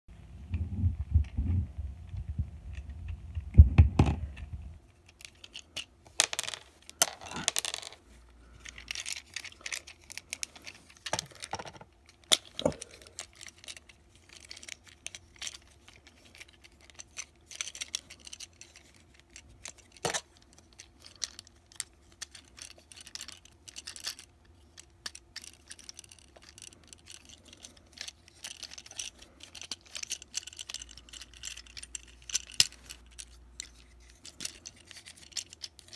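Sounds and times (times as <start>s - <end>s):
plastic toy clicking and scraping: 4.8s - 35.9s.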